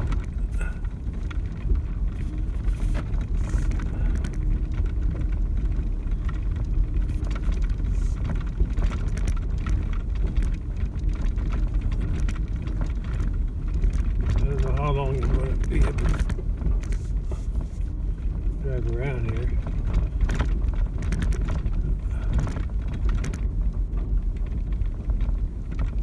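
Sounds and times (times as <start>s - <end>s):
vehicle engine and tyres rumbling: 0.0s - 26.0s
vehicle knocks and rattles: 0.0s - 26.0s.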